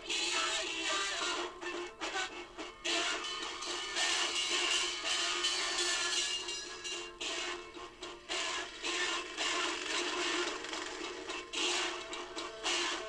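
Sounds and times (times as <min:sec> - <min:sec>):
music on an old record: 0:00.0 - 0:13.0.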